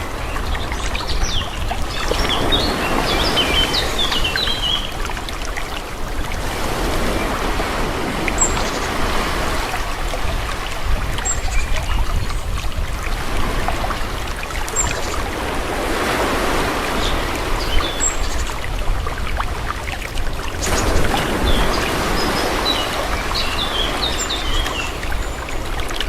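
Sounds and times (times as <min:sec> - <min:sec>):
small waves washing: 0:00.0 - 0:26.0.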